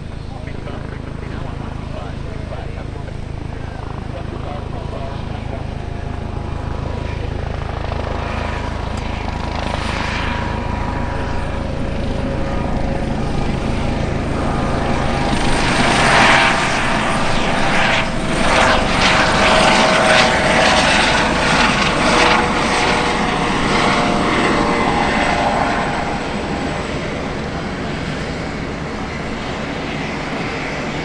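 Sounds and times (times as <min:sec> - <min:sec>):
helicopter engines whining: 0:00.0 - 0:31.0
rotor blades beating: 0:00.0 - 0:31.0.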